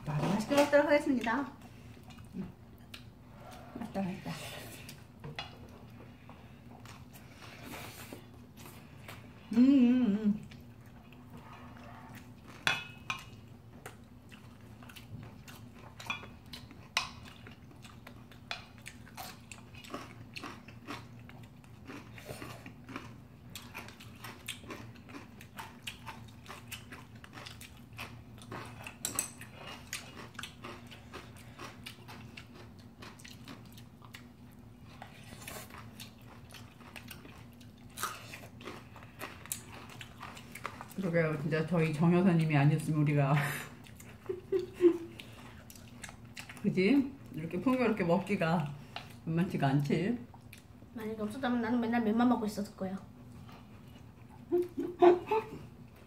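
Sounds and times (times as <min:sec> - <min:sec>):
low steady hum: 0:00.0 - 0:56.0
people chewing: 0:01.3 - 0:49.3, 0:50.2 - 0:51.4, 0:53.0 - 0:56.0.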